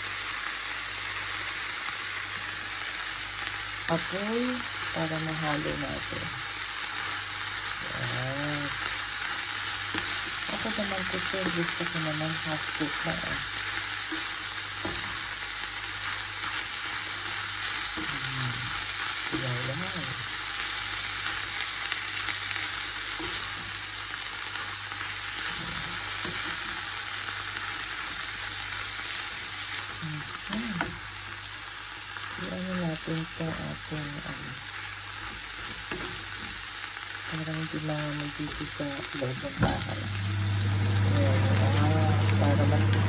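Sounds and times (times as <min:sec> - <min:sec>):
food sizzling in a frying pan: 0:00.0 - 0:43.0.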